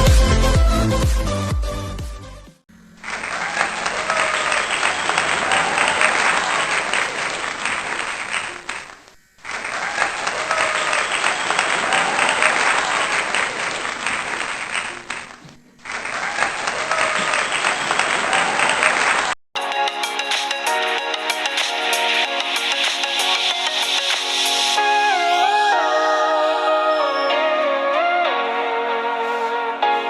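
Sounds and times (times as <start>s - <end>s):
crowd clapping and cheering: 3.0s - 19.4s, 20.0s - 30.0s.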